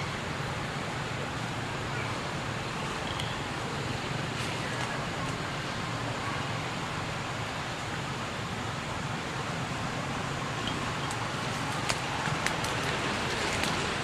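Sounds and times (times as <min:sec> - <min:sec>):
constant hiss: 0:00.0 - 0:14.0.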